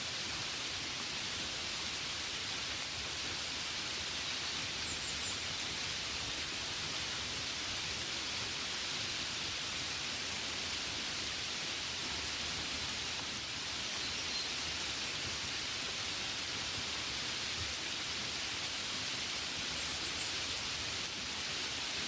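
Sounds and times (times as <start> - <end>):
rain on a window: 0.0 - 22.0.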